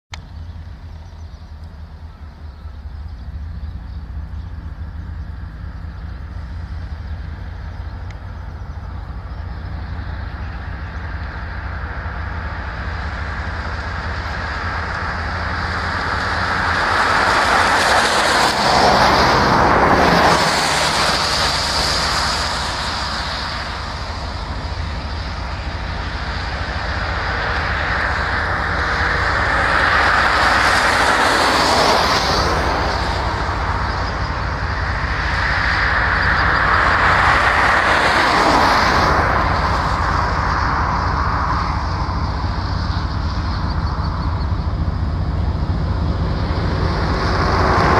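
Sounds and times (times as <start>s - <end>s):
diesel locomotive engines droning: 0.1s - 47.9s
broad noise swells: 0.2s - 47.9s.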